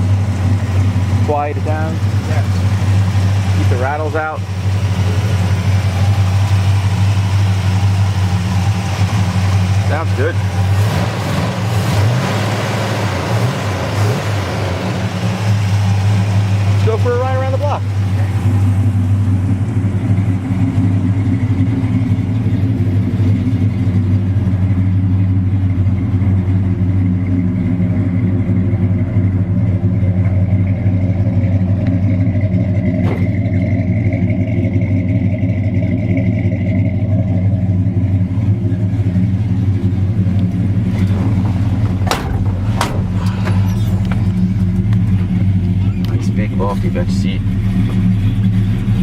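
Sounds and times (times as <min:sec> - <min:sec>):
truck engine droning: 0:00.0 - 0:49.0.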